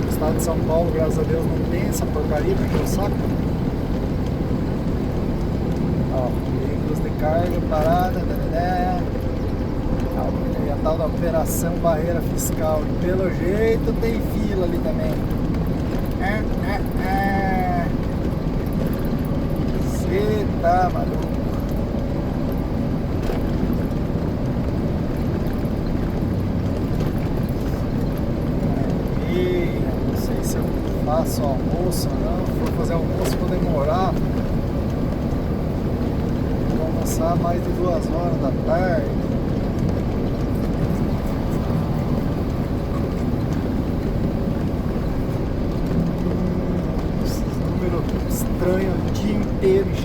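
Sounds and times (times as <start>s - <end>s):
road noise: 0.0s - 50.0s
truck engine rumble: 0.0s - 50.0s.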